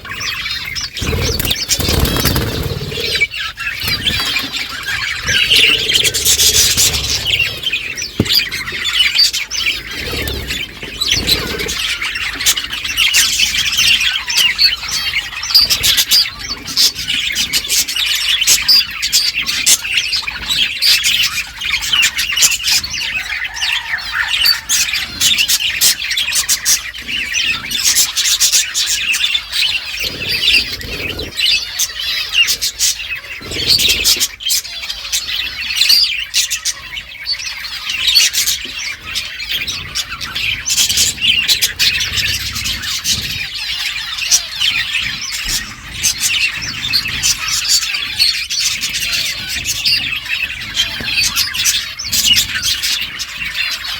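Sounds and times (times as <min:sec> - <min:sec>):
budgerigars chirping and chattering: 0:00.0 - 0:53.9.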